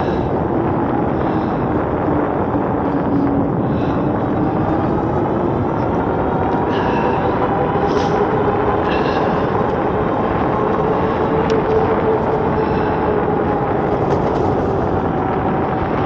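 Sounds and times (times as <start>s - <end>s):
tyre noise on pavement: 0.0s - 16.0s
wind on microphone: 0.0s - 16.0s.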